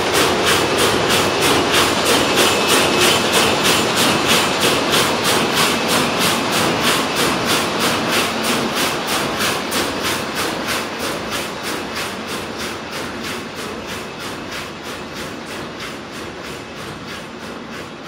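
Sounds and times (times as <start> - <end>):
weaving loom clattering: 0.0 - 18.0.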